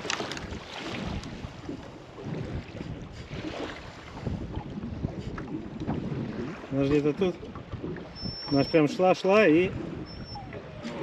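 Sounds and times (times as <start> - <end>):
water slapping around boat: 0.0 - 11.0
wind buffeting microphone: 0.0 - 11.0.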